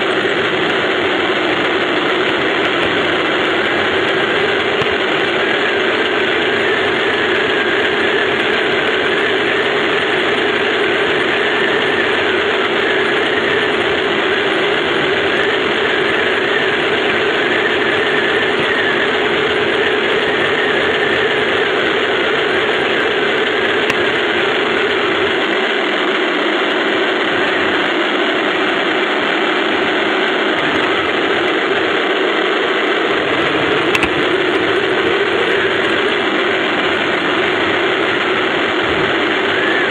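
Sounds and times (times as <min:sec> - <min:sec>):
toy tank motors and tracks: 0:00.0 - 0:39.9.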